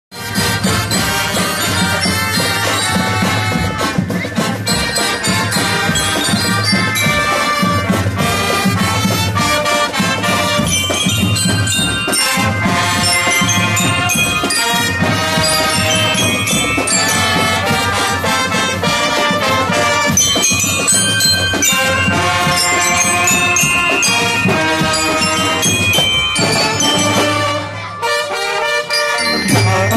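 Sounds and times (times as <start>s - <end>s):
marching band playing: 0.1s - 29.9s.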